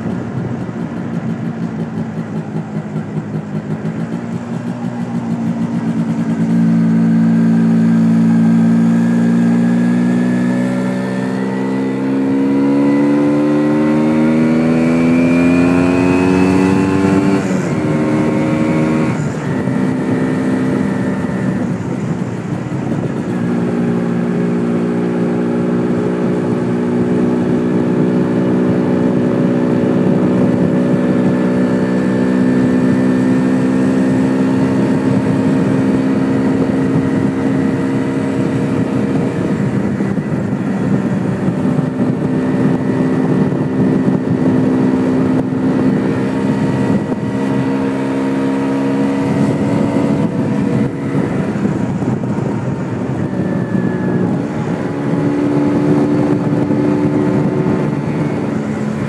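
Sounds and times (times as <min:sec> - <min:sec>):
motorcycle engine: 0:00.0 - 0:59.0
wind noise on microphone: 0:00.0 - 0:59.0.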